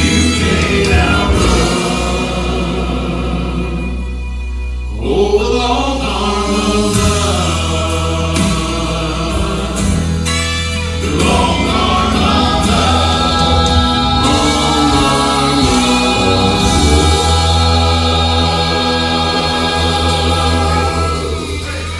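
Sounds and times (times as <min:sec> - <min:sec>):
backing track music: 0:00.0 - 0:21.9
vocal quartet singing in harmony: 0:00.0 - 0:21.9.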